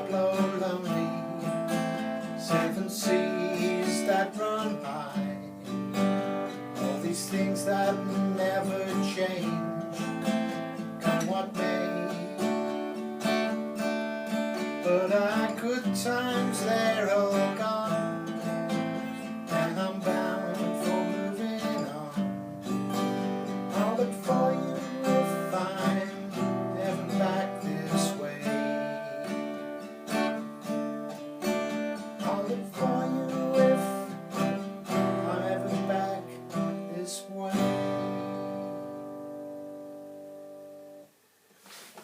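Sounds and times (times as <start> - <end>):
acoustic guitar strumming chords: 0.0 - 41.2.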